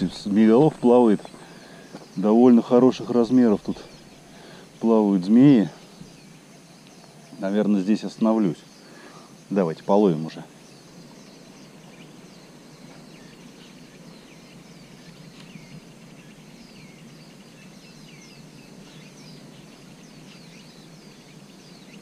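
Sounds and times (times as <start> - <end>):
birds chirping: 0.0 - 22.0
steady low background noise: 0.0 - 22.0.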